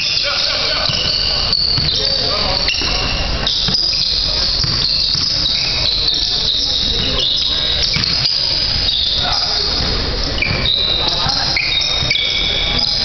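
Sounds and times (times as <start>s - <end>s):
sneakers squeaking on wood floor: 0.0s - 13.0s.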